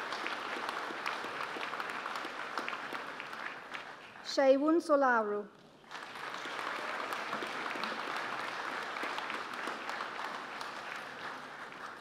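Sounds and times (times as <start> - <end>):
audience applause: 0.0 - 4.2, 5.8 - 12.0.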